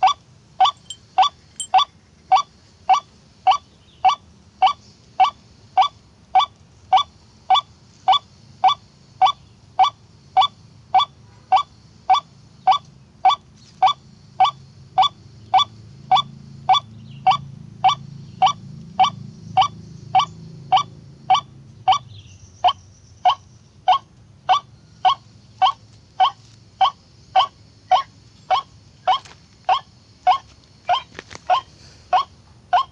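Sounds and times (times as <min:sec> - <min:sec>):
waterhen harsh calls: 0:00.0 - 0:22.0, 0:22.6 - 0:32.9.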